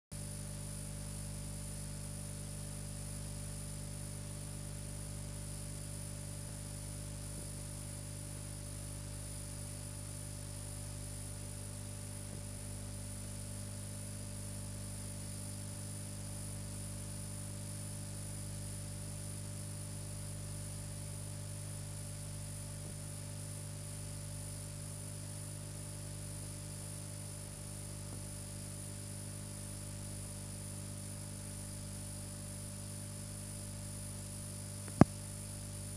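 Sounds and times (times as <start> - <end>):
electrical hum and buzz: 0.1 - 35.9.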